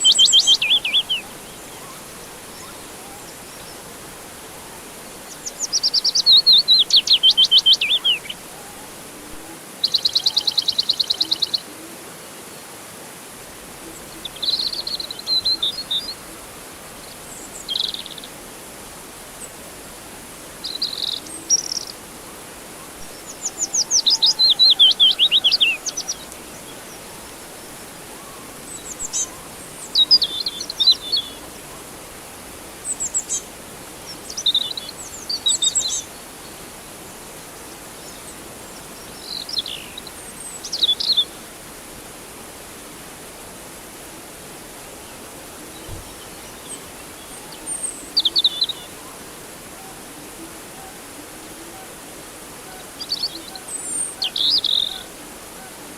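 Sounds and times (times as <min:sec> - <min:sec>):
songbirds trilling and chirping: 0:00.0 - 0:11.7, 0:13.5 - 0:42.0, 0:44.7 - 0:55.8
steady hiss: 0:00.0 - 0:55.9.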